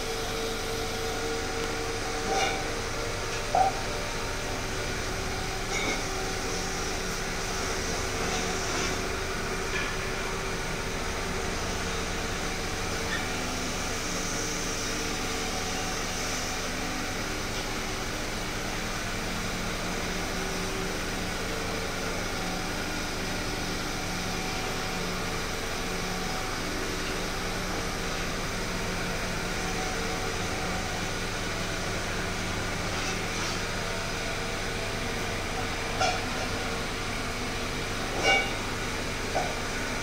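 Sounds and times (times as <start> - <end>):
mechanical drone with low hum: 0.0 - 40.0.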